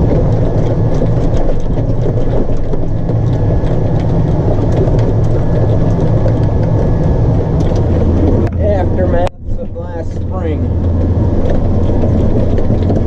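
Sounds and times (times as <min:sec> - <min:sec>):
combine harvester droning: 0:00.0 - 0:13.0.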